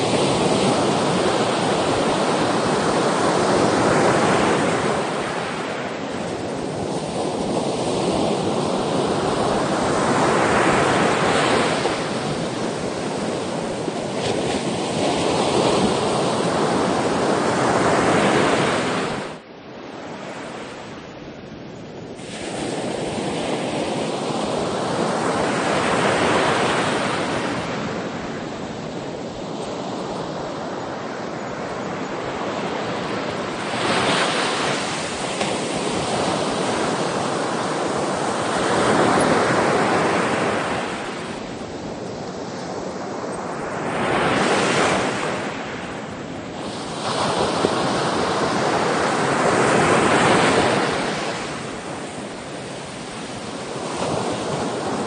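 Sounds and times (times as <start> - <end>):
ocean waves breaking: 0.0 - 21.0, 22.1 - 55.0.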